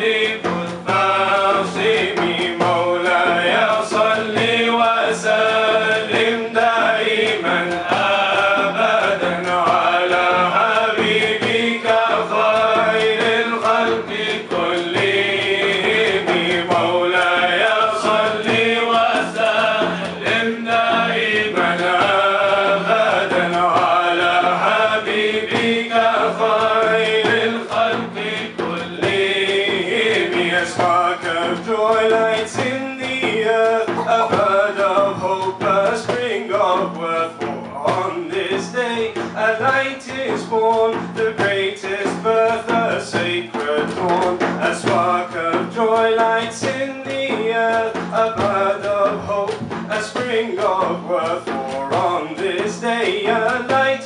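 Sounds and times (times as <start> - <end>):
low held vocal drone: 0.0 - 49.6
lead male voice singing melody: 0.0 - 54.0.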